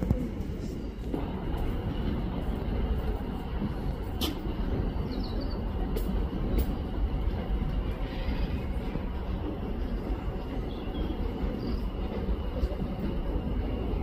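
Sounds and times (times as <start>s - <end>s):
train rumbling on tracks: 0.0s - 14.0s
wheels clicking on rails: 0.0s - 14.0s.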